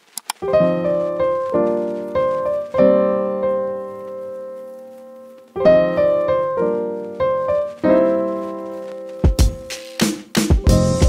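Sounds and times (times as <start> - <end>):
piano chords ringing: 0.4 - 11.0.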